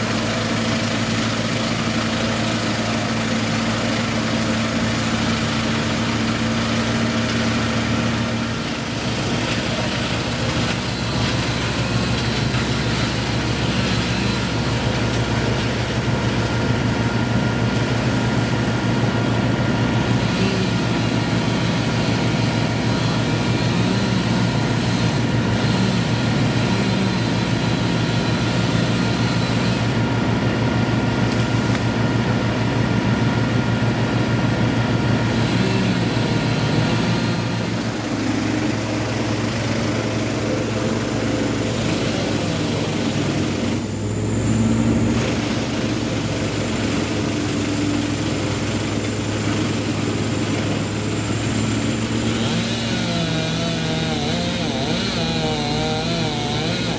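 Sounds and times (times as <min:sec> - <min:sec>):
heavy engine running: 0:00.0 - 0:56.9.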